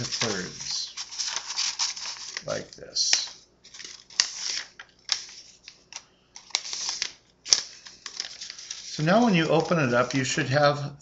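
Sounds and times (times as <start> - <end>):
paper rustling and crackling: 0.0 - 10.7.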